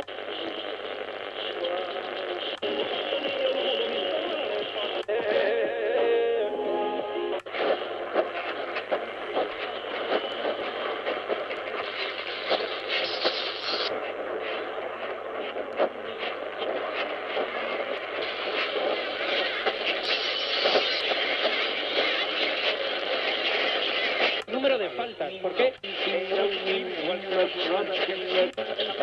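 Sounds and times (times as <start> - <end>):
radio music: 0.0 - 29.0
radio static hiss and crackling: 0.0 - 29.0.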